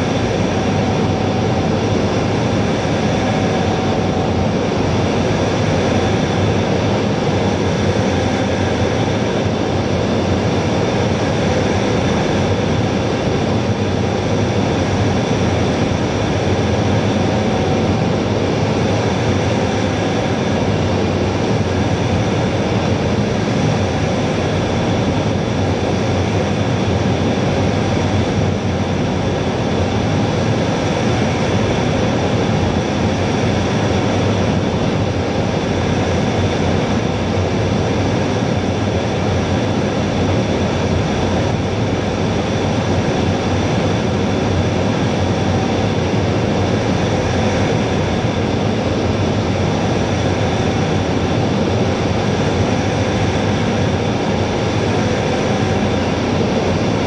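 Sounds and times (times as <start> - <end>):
jet engine noise: 0.0 - 57.0.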